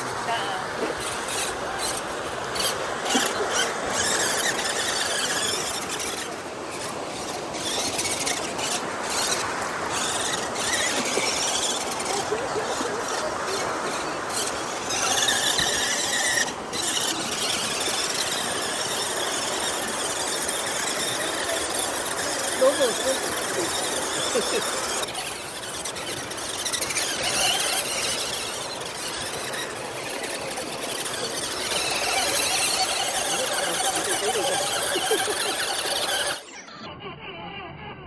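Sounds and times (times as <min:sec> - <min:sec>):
vehicle high-pitched squeal: 0:02.6 - 0:36.8.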